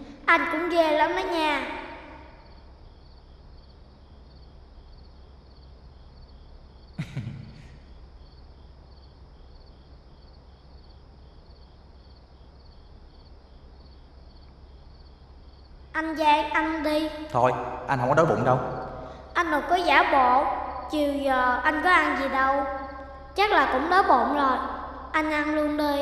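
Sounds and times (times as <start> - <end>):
low steady hum: 0.0 - 25.8
crickets chirping: 0.0 - 26.0.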